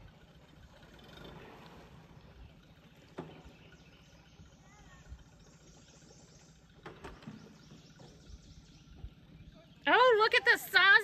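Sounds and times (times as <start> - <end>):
faint outboard motor idling: 0.0 - 11.0.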